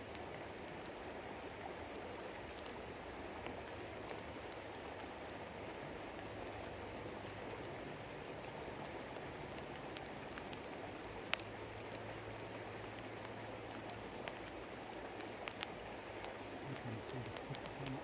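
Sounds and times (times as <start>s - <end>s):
flowing river water: 0.0s - 18.0s
rain: 0.0s - 18.0s.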